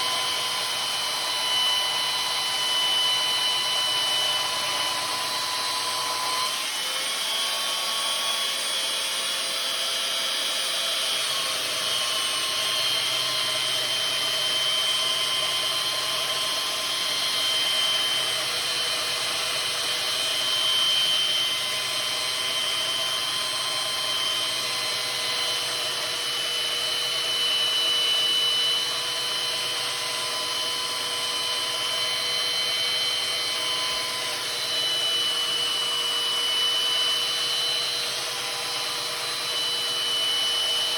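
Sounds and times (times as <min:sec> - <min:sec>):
power grinder grinding steel: 0:00.0 - 0:40.9.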